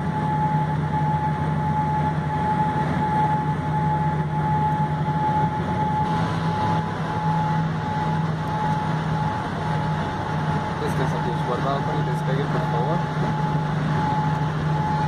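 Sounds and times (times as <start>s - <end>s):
high-pitched whine: 0.0s - 15.0s
jet engines idling: 0.0s - 15.0s
low hum: 0.0s - 15.0s.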